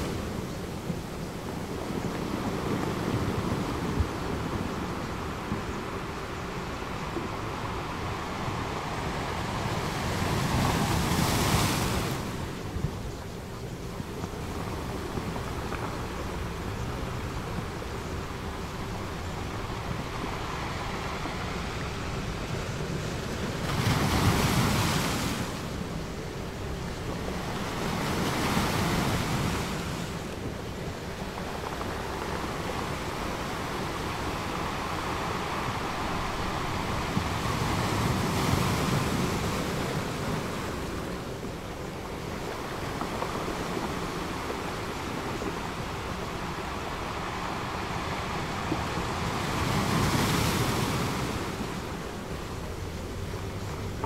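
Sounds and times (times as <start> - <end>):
ocean waves washing in: 0.0 - 54.0.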